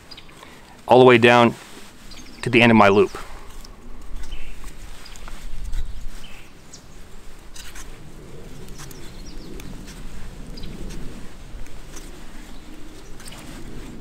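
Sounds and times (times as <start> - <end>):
cord wrapped around stick rustling: 0.0 - 14.0.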